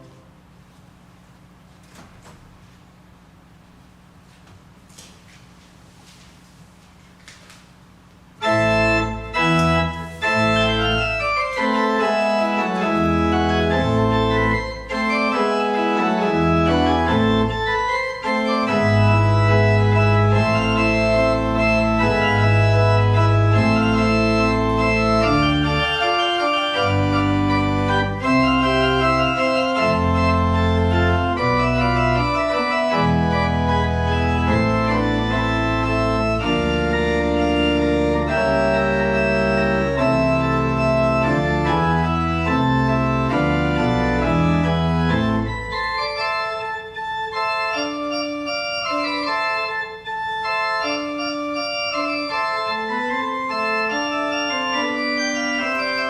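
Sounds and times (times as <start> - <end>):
church organ chords: 0.0 - 1.7, 8.2 - 56.0
deep organ pedal bass: 8.4 - 56.0.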